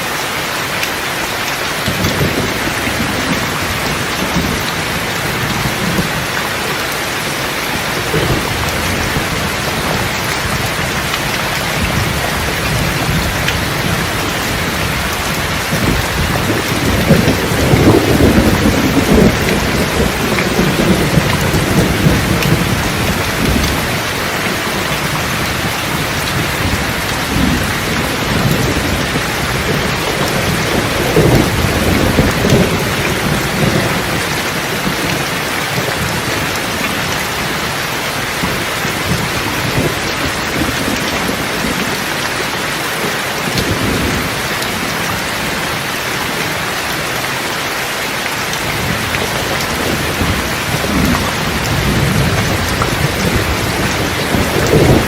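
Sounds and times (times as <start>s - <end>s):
steady rain falling: 0.0s - 55.0s
thunder rolling: 1.9s - 6.3s, 7.3s - 42.4s, 48.6s - 55.0s.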